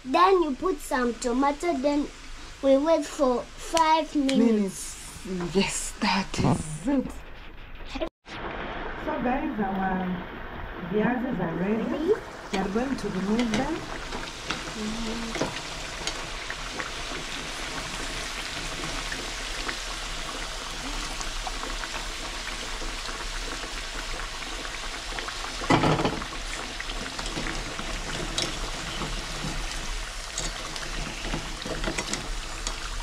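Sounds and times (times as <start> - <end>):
potatoes sizzling in hot oil: 0.0 - 5.4, 8.4 - 33.0.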